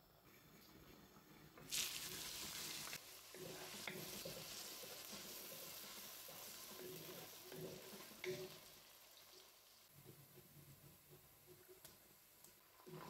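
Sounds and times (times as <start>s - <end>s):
onions sizzling in oil: 1.6s - 13.0s.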